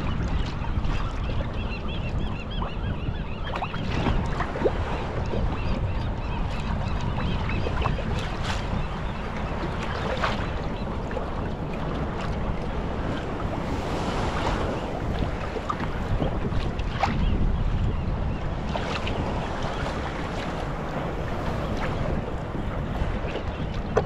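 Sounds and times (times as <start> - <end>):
water sloshing around a kayak: 0.0 - 24.0
wind buffeting the microphone: 0.0 - 24.0.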